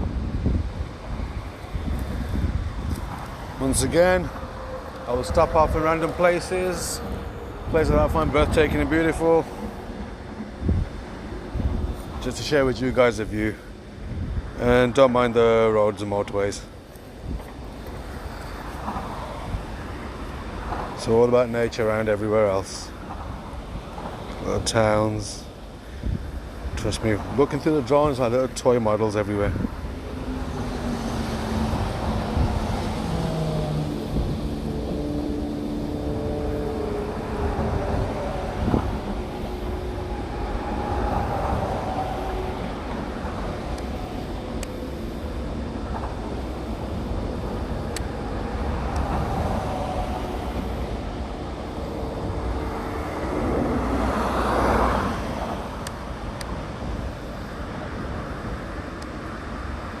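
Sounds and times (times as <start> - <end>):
road traffic passing: 0.0 - 60.0.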